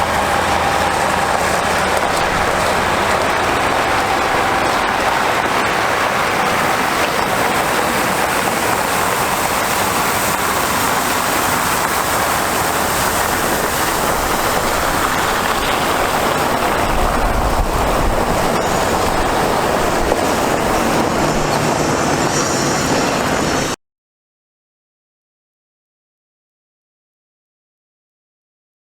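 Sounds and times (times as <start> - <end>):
water truck rushing noise: 0.0 - 23.8.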